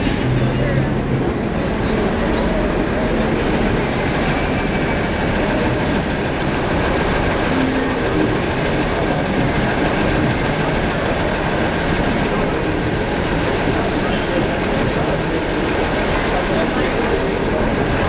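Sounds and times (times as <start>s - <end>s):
busy street traffic roar: 0.0s - 18.0s.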